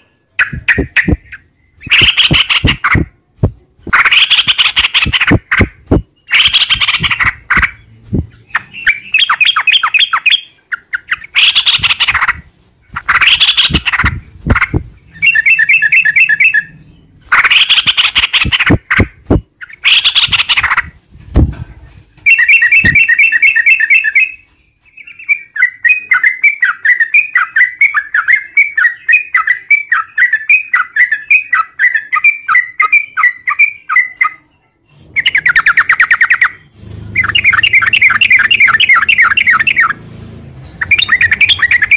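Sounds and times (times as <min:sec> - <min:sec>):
bird singing harsh chattering phrases: 0:00.0 - 0:21.0, 0:22.2 - 0:40.0, 0:40.7 - 0:41.9.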